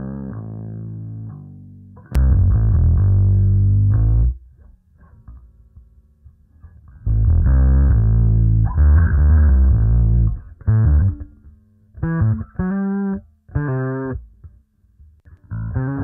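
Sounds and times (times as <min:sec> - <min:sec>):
electric bass guitar: 0:00.0 - 0:16.0.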